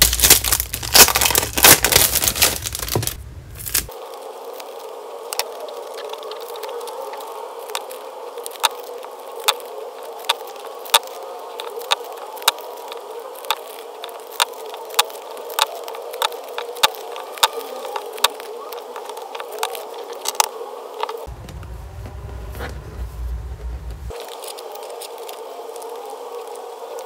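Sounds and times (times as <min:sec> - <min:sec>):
packaging clicks and crackles: 0:00.0 - 0:21.3, 0:24.1 - 0:27.0
steady hum: 0:00.0 - 0:27.0.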